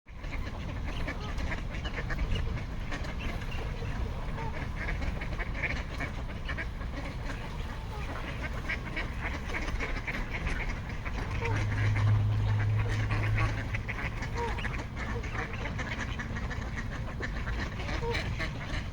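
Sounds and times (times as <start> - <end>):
ducks quacking: 0.1 - 18.9
geese calling: 0.1 - 18.9.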